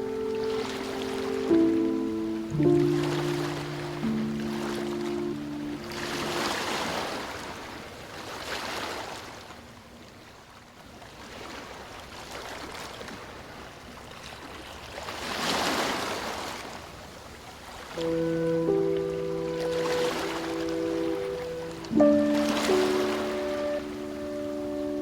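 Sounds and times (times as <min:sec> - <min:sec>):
ocean waves washing onto beach: 0:00.0 - 0:09.7, 0:11.1 - 0:25.0.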